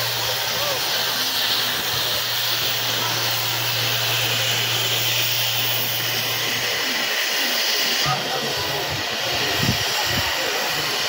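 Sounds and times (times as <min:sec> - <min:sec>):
steady train hiss: 0:00.0 - 0:11.0.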